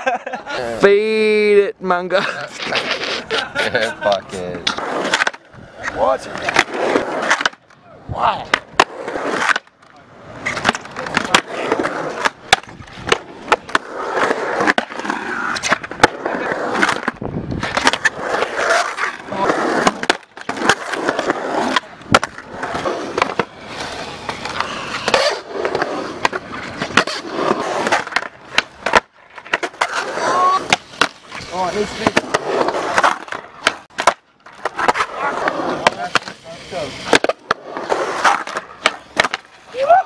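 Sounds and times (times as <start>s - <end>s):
skateboard wheels rolling on concrete: 0.0s - 40.0s
skateboard trucks grinding on metal: 2.1s - 7.8s, 8.4s - 39.8s
skateboard clacks: 2.6s - 7.8s, 8.4s - 36.4s, 37.0s - 40.0s.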